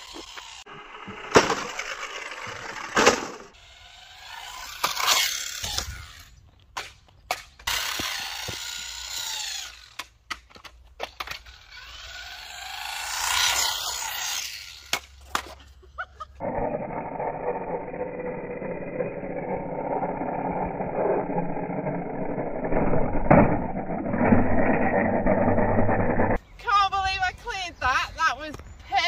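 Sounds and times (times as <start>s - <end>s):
rc car motor and tyre noise: 0.0s - 6.6s, 7.4s - 15.5s, 16.3s - 26.4s.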